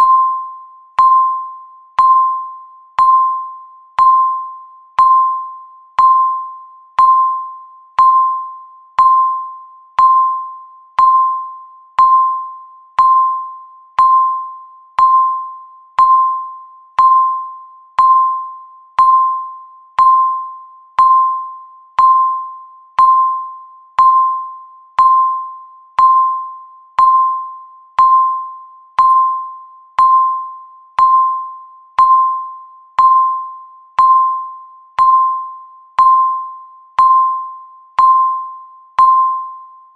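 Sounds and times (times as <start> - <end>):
high electronic timer beep: 0.0 - 39.9.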